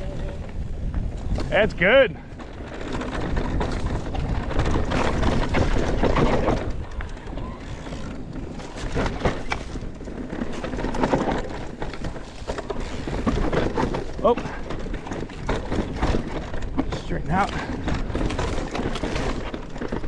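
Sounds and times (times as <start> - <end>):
bike knocking and rattling: 0.0 - 20.0
bike tyres on dirt and rock: 0.0 - 20.0.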